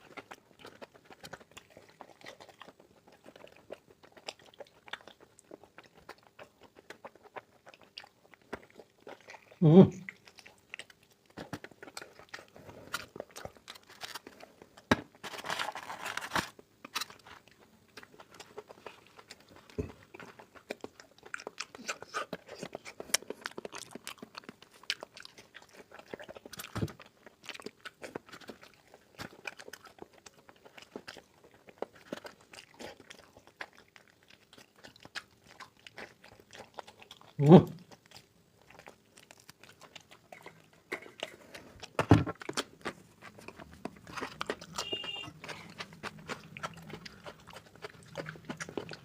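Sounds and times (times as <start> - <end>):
chewing and biting food: 0.0 - 49.0.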